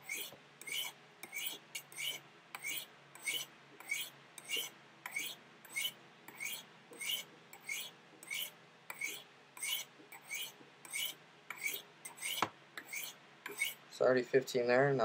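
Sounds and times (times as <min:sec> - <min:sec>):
knife scraping on ceramic rods: 0:00.0 - 0:13.8.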